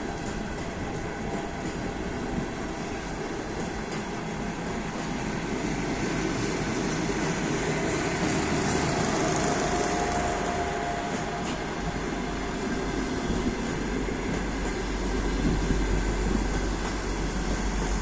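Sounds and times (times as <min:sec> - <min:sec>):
train rumbling past on rails: 0:00.0 - 0:18.0.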